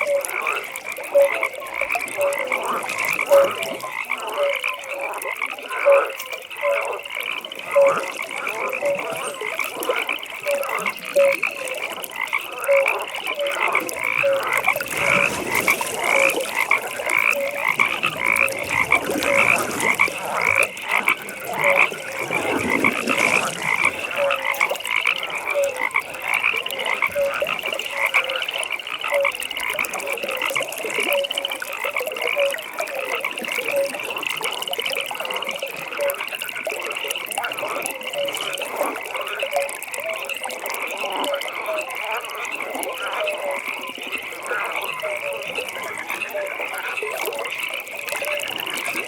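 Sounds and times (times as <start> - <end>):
frogs croaking: 0.0 - 49.0
low-pitched frog call: 0.0 - 49.0.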